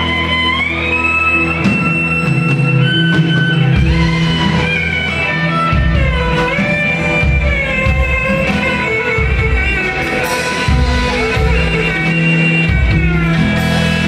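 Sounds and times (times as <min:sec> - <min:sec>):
bass line: 0:00.0 - 0:14.0
live band playing: 0:00.0 - 0:14.0.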